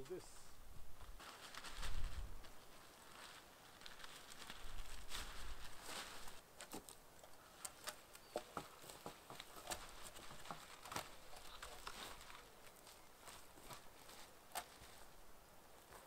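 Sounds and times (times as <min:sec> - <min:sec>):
dry twigs rustling and snapping: 0:01.0 - 0:15.2, 0:15.8 - 0:16.0.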